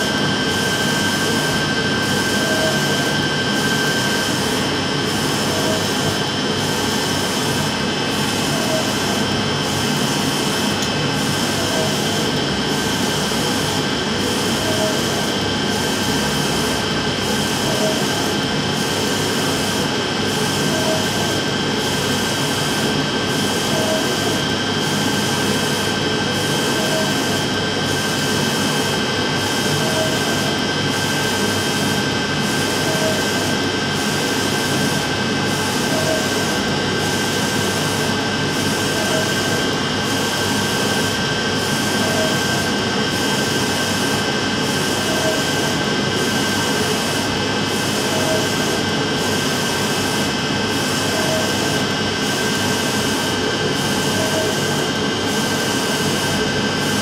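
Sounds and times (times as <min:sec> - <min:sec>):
printer humming and whining: 0:00.0 - 0:57.0.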